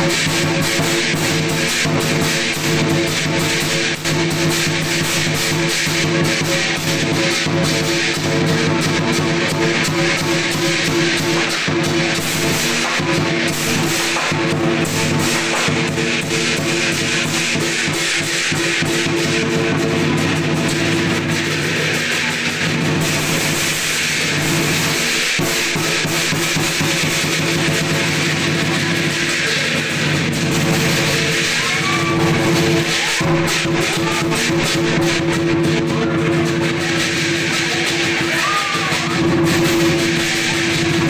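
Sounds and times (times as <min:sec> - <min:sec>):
drum beaten fast: 0:00.0 - 0:41.0.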